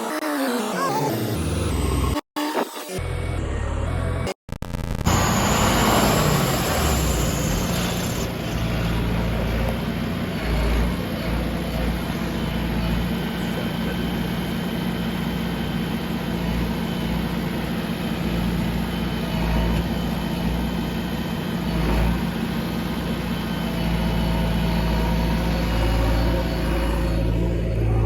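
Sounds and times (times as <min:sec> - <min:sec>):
heavy diesel engine running: 0:05.1 - 0:28.0.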